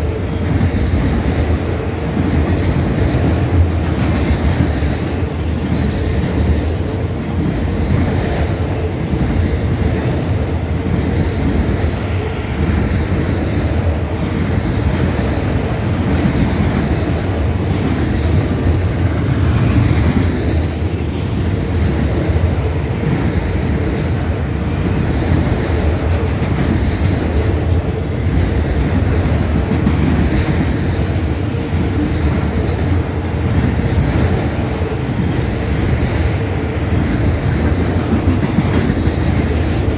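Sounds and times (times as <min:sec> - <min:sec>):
clickety-clack over rail joints: 0:00.0 - 0:39.9
train wheels on rails: 0:00.0 - 0:39.9.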